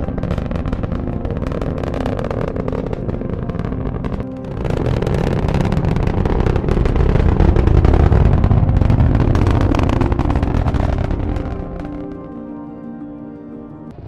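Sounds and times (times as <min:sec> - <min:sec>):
rocket engine crackling rumble: 0:00.0 - 0:12.8.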